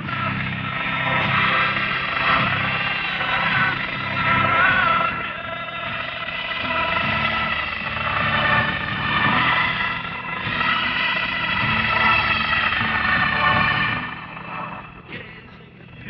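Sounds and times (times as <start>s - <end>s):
tank engines rumbling: 0.0s - 16.0s.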